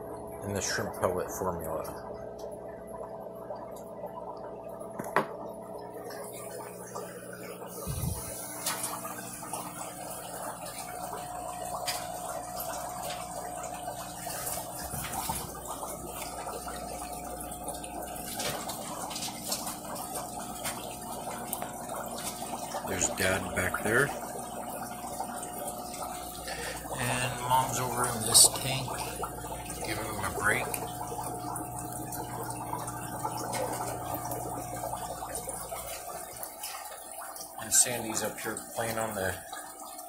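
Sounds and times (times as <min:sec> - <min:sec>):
steady hum: 0:00.0 - 0:40.0
water bubbling and trickling: 0:00.0 - 0:40.0.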